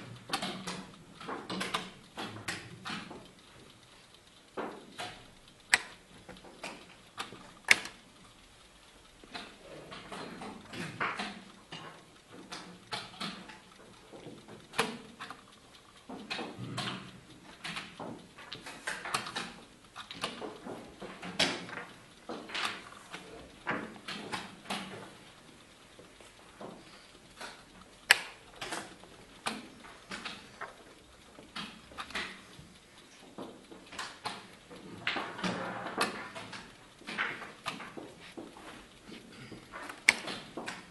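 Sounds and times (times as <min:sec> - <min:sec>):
chess clock buttons clicking: 0:00.0 - 0:39.1, 0:39.7 - 0:40.9.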